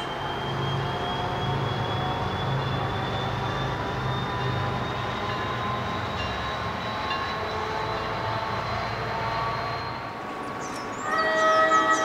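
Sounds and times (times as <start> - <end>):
train rumbling by: 0.0 - 12.0.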